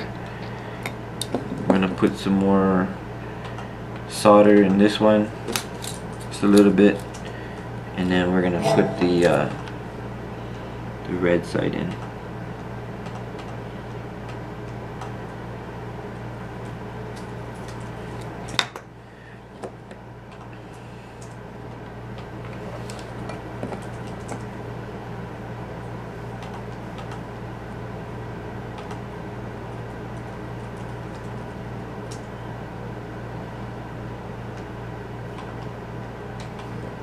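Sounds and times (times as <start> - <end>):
low hum and room noise: 0.0 - 37.0.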